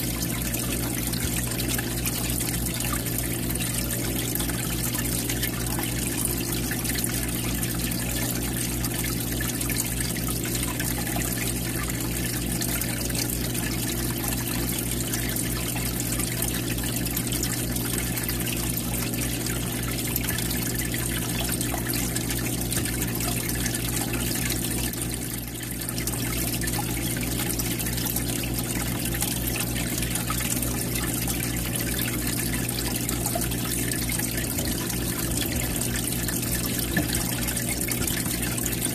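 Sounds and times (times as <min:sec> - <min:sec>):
steady low hum: 0:00.0 - 0:38.9
water trickling and splashing: 0:00.0 - 0:38.9.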